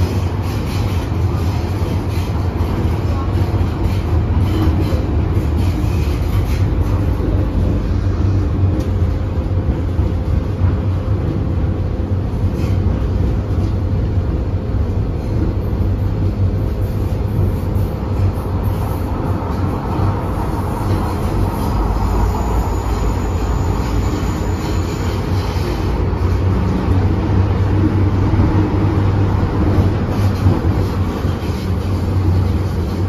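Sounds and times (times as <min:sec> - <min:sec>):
wheels rumbling on track: 0:00.0 - 0:33.0.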